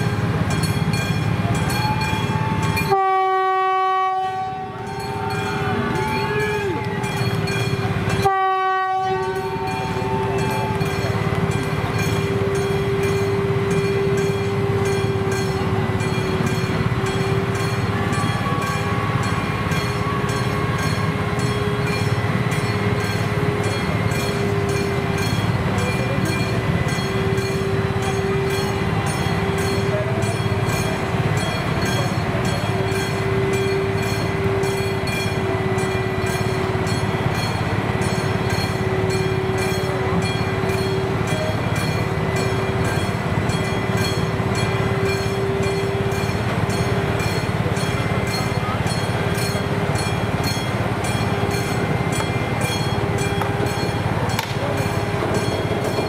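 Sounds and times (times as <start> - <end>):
crossing warning ticking: 0.0 - 56.0
crossing warning tone: 0.0 - 56.0
diesel locomotive rumbling: 0.0 - 56.0.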